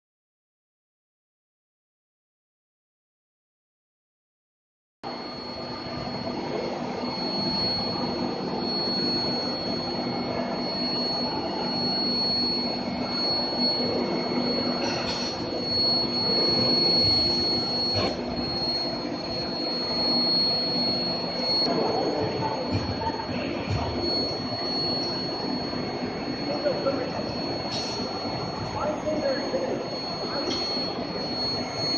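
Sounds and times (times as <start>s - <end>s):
induction furnace whine and hum: 5.0s - 31.9s.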